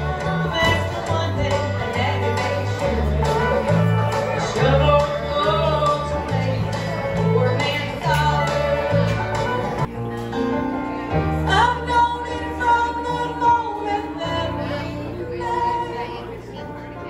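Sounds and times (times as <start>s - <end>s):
woman singing into a microphone: 0.0s - 9.8s, 11.3s - 17.0s
amplified instrumental accompaniment: 0.0s - 17.0s.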